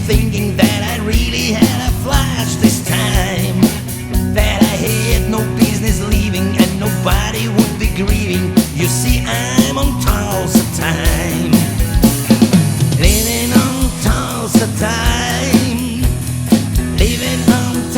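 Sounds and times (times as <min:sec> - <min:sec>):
band playing country-rock song: 0:00.0 - 0:17.9.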